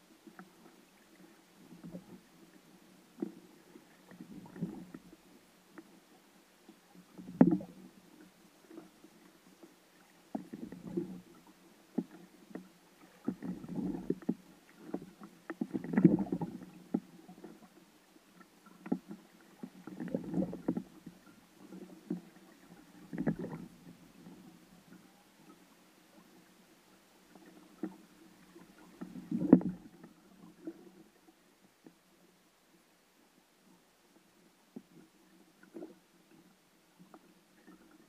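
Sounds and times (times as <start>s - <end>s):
faint steady hum: 0.0s - 38.0s
water sloshing against kayak hull: 0.2s - 32.0s.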